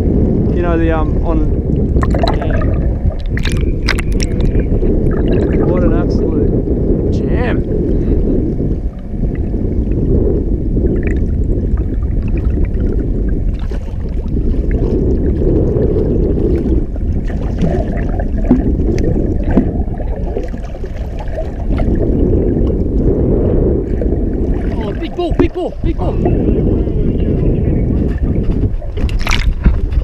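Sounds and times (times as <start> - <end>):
muffled underwater rushing: 0.0 - 30.0.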